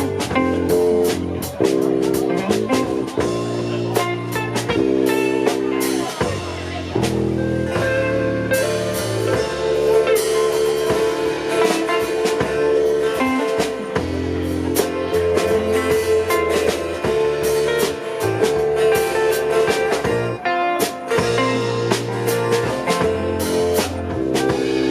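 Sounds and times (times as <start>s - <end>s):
bass line: 0.0s - 24.9s
drum kit: 0.0s - 24.9s
guitar: 0.0s - 24.9s.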